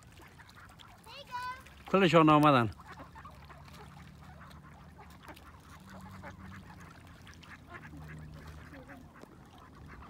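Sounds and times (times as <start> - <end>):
ducks quacking softly: 0.0 - 10.0.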